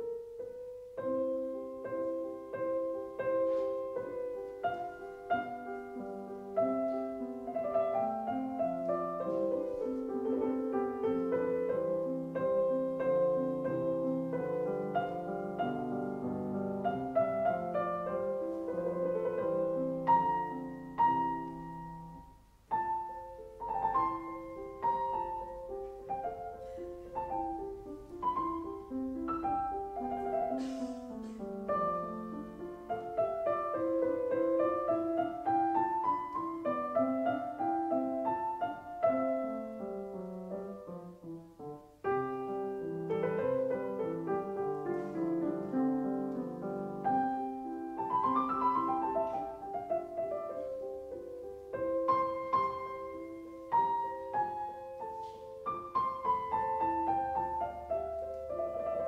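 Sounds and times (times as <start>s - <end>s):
gentle solo piano music: 0.0s - 59.0s.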